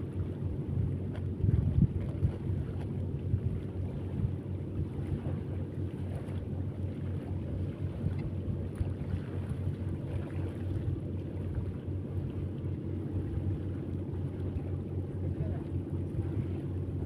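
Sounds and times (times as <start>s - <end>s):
low motor drone: 0.0s - 17.0s.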